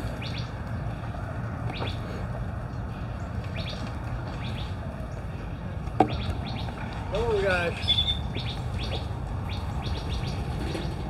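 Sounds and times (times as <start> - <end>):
low background rumble: 0.0 - 11.0
small birds chirping: 0.0 - 11.0.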